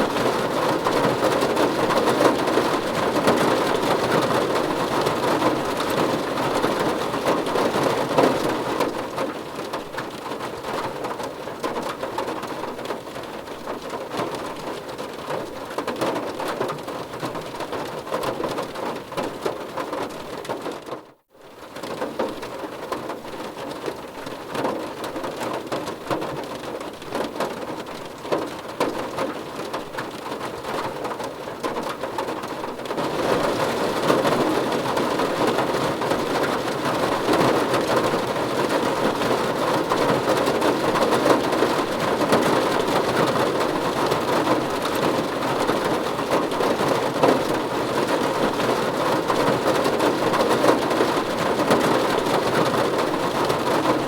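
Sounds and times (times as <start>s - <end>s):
rain pattering on car body: 0.0s - 54.0s.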